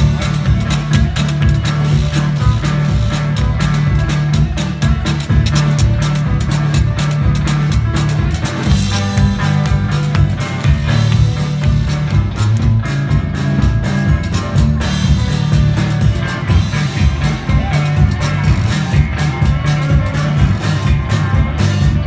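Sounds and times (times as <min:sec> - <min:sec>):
drum kit beats: 0:00.0 - 0:22.0
electric guitar: 0:00.0 - 0:22.0
pulsing bass line: 0:00.0 - 0:22.0.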